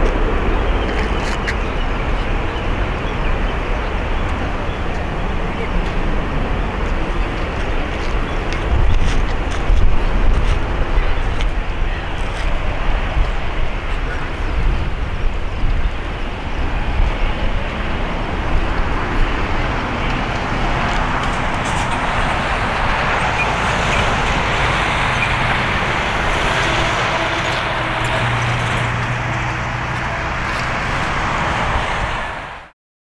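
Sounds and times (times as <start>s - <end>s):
jet engines roaring: 0.0s - 32.7s.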